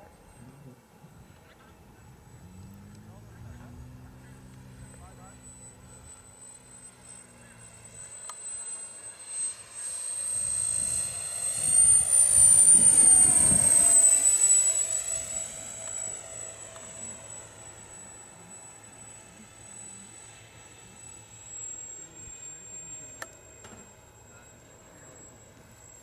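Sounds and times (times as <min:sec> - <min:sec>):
electric ducted fan whine: 0:00.0 - 0:26.0.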